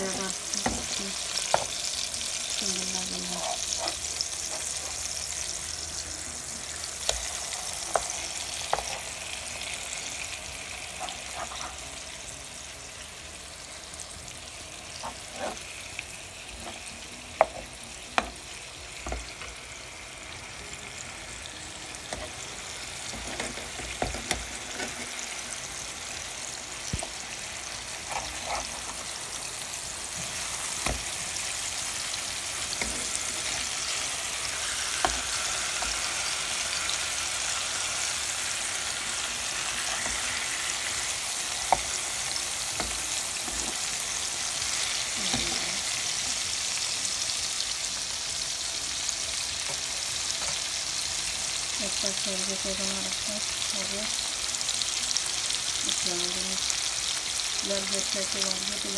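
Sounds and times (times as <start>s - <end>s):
fish frying in oil: 0.0s - 58.9s.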